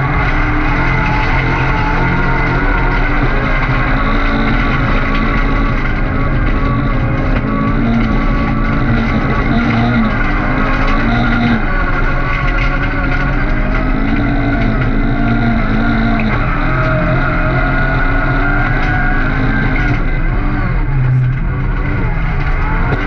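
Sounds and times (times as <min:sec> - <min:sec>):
racing car engine: 0:00.0 - 0:23.0.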